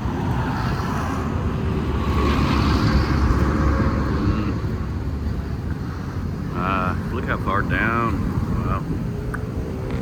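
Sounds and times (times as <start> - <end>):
vehicle engine and road noise: 0.0 - 10.0.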